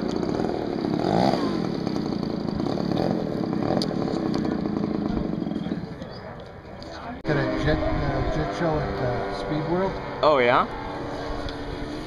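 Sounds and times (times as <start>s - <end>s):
model airplane engine buzzing: 0.0s - 6.6s, 7.2s - 12.0s.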